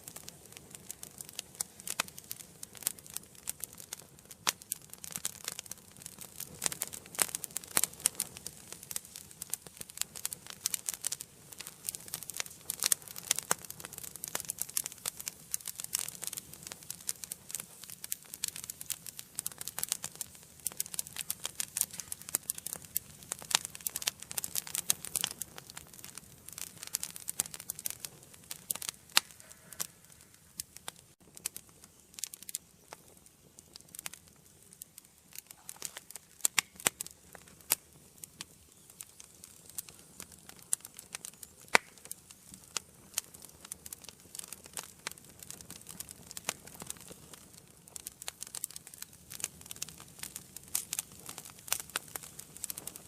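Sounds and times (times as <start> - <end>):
faint fire hiss: 0.0 - 53.0
wood fire crackling and popping: 0.0 - 53.0.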